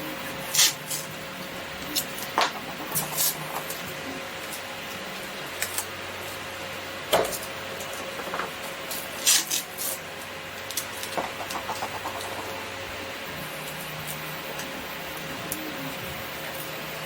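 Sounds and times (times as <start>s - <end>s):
scratchy tape rubbing: 0.0s - 6.5s, 8.9s - 17.0s
faint steady hum: 0.0s - 17.0s.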